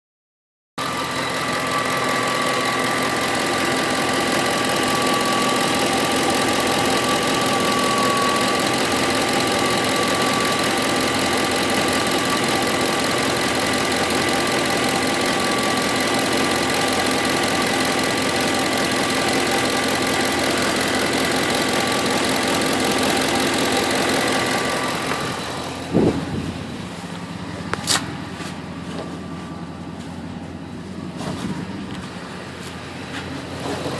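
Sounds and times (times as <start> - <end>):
engine idling with ticking: 0.8 - 33.9.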